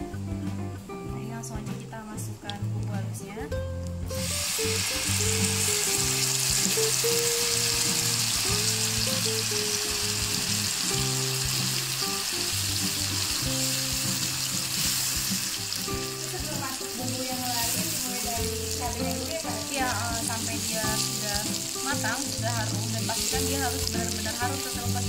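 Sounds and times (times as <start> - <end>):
paste sizzling in hot oil: 4.1 - 25.0.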